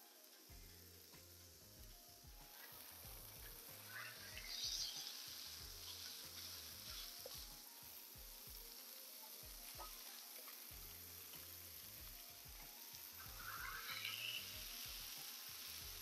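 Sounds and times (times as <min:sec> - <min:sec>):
burger patty sizzling on griddle: 0:00.0 - 0:16.0.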